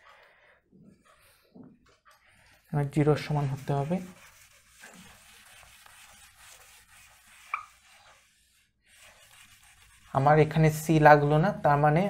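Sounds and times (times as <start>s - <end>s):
eraser rubbing on whiteboard: 1.1s - 11.4s.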